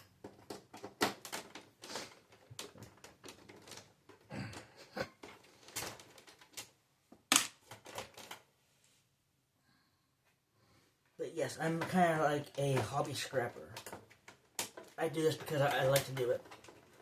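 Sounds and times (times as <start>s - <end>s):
plastic and metal parts clattering: 0.0s - 8.5s, 11.6s - 17.0s.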